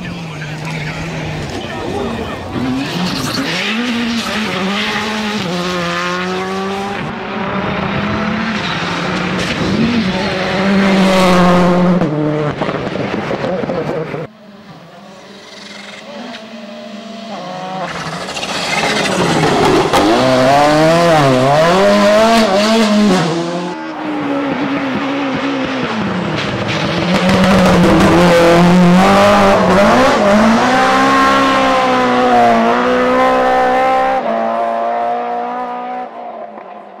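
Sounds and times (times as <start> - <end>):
engines revving high: 0.0 - 14.3, 15.0 - 36.6
rally cars passing at speed: 0.0 - 37.0.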